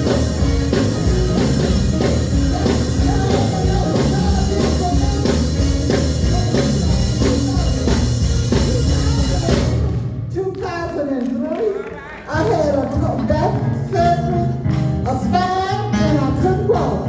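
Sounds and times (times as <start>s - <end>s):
loud band music: 0.0s - 17.0s.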